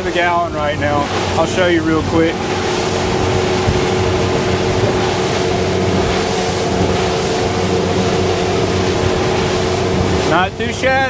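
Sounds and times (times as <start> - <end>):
outboard engine drone: 0.0 - 11.0
water rushing along hull: 0.0 - 11.0
wind: 0.0 - 11.0.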